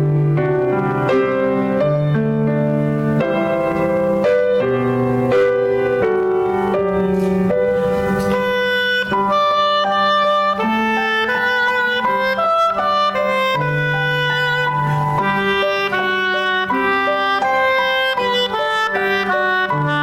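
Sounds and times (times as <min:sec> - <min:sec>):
piano with melody line: 0:00.0 - 0:20.0.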